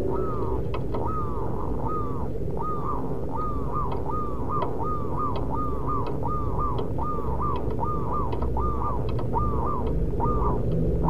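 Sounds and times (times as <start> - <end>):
dove cooing: 0.0 - 11.0
steady low rumble: 0.0 - 11.0.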